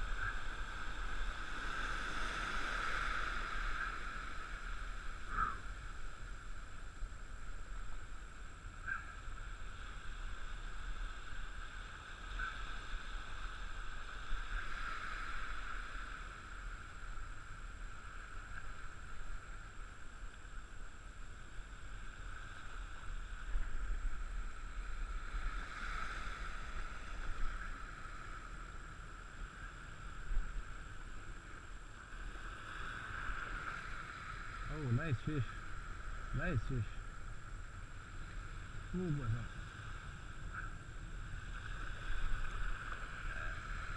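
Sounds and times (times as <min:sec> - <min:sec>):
wind rumbling on microphone: 0:00.0 - 0:43.9.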